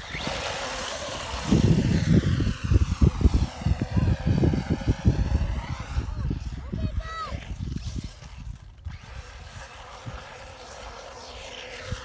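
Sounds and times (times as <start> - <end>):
rc car motor whining: 0.0 - 12.0
wind buffeting microphone: 0.0 - 12.0.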